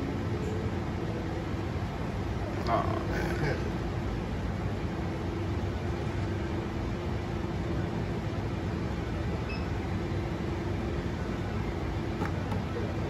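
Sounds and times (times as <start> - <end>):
low machine hum and hiss: 0.0 - 13.0.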